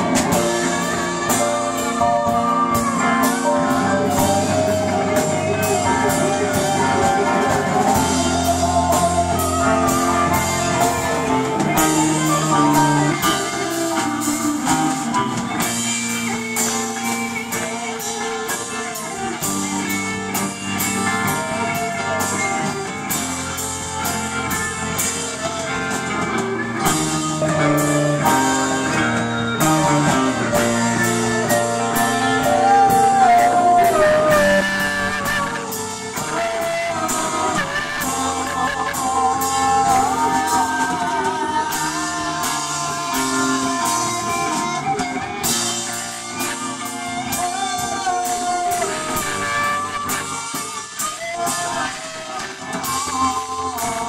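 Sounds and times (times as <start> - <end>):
drum kit beat: 0.0 - 54.0
electric guitars: 0.0 - 54.0
keyboard: 0.0 - 54.0.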